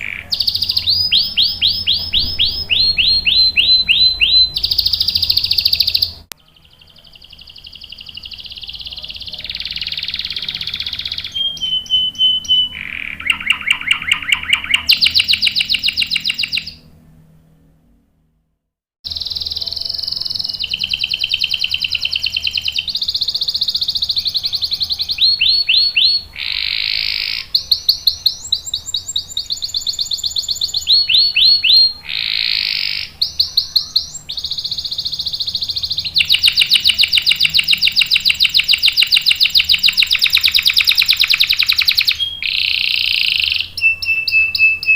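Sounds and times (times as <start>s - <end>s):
canary singing trills: 0.0s - 17.0s, 19.1s - 44.9s.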